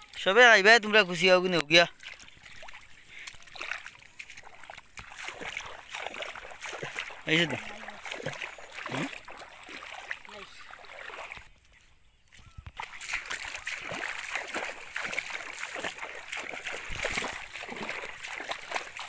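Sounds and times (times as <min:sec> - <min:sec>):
water splashing from wading: 0:00.0 - 0:19.0.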